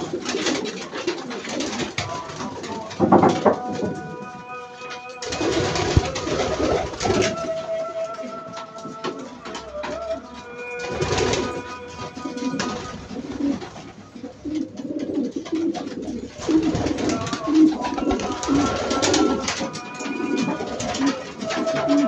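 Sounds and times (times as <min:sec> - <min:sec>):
call to prayer over loudspeaker: 0:00.0 - 0:14.4, 0:15.6 - 0:22.0
pigeons cooing: 0:00.0 - 0:22.0.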